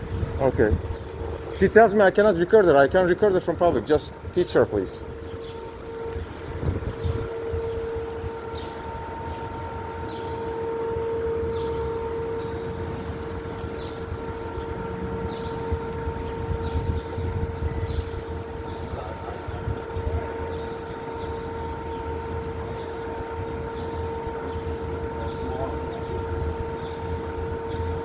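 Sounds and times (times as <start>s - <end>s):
low traffic rumble: 0.0s - 28.0s.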